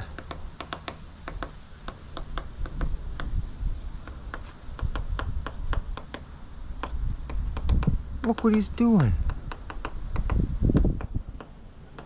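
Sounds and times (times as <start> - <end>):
woodpecker tapping on wood: 0.0 - 12.0.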